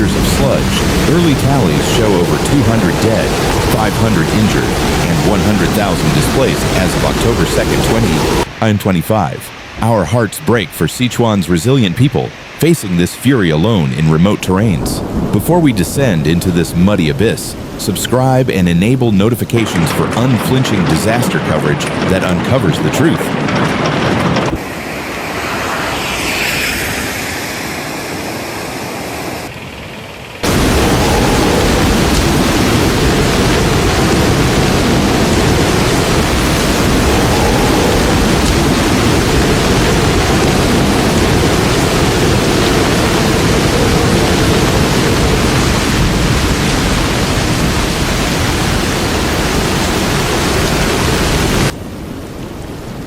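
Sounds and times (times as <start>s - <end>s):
loud rushing noise with low rumble: 0.0s - 8.8s, 13.8s - 17.8s, 19.6s - 51.8s.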